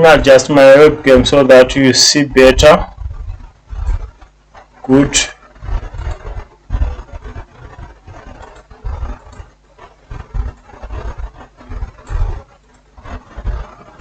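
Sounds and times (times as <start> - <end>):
dull bumps and rustling: 2.6 - 14.0.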